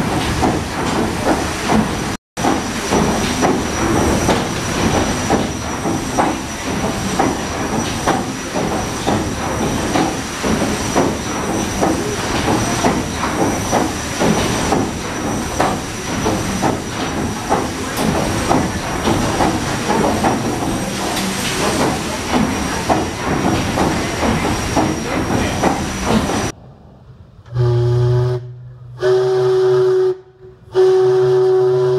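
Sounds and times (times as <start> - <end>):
steam engine hissing and knocking: 0.0 - 26.6.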